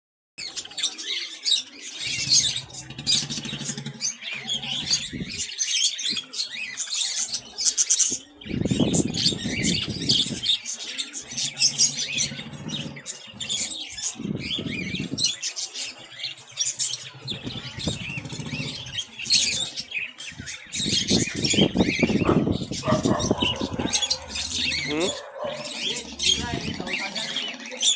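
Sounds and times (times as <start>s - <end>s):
small birds chirping: 0.4s - 27.9s.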